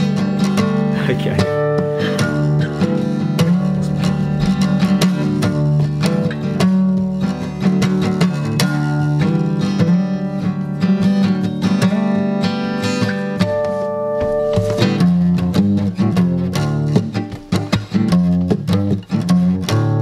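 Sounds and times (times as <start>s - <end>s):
acoustic guitar strummed and picked: 0.0s - 20.0s.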